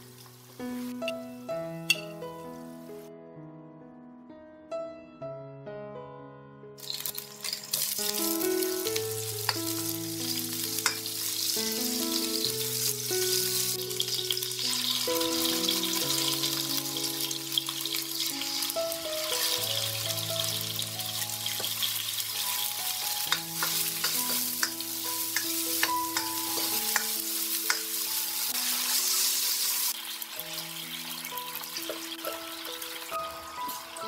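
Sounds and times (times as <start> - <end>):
food sizzling in a hot pan: 0.0 - 1.1, 6.8 - 34.0
soft background music: 0.0 - 5.9, 6.8 - 34.0.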